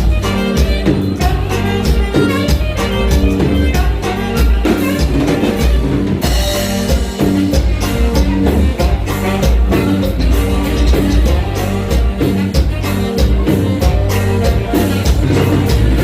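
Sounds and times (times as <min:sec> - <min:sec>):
dance music with drums and bass: 0:00.0 - 0:16.0.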